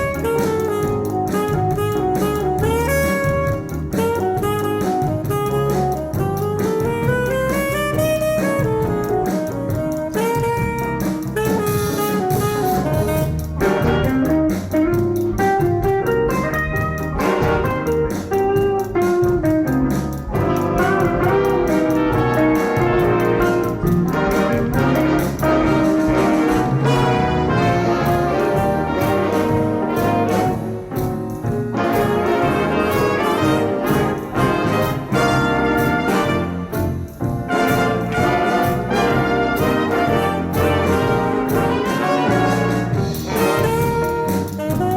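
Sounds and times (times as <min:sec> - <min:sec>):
brass melody: 0:00.0 - 0:44.9
jazz band playing: 0:00.0 - 0:44.9.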